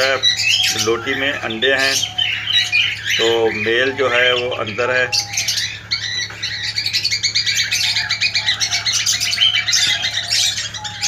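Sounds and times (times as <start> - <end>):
cockatiels chirping: 0.0 - 11.0.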